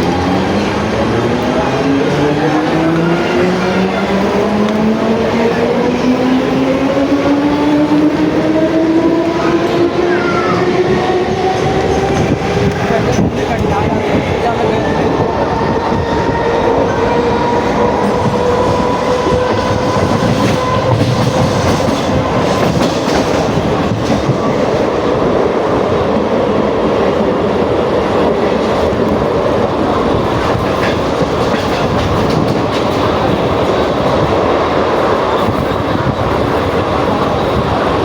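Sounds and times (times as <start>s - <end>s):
train wheels on track: 0.0s - 38.0s.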